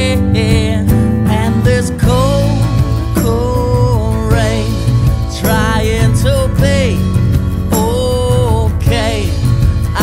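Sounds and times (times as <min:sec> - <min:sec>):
song accompaniment: 0:00.0 - 0:10.0.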